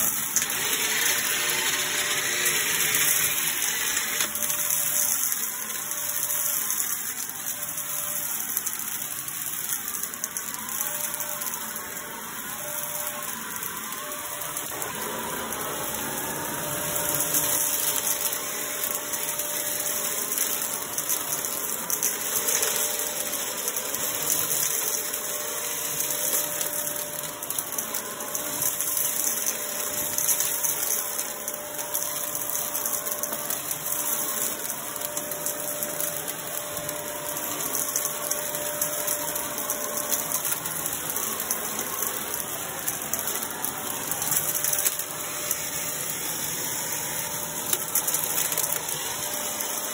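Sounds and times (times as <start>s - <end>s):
vacuum cleaner running on carpet: 0.0s - 49.9s.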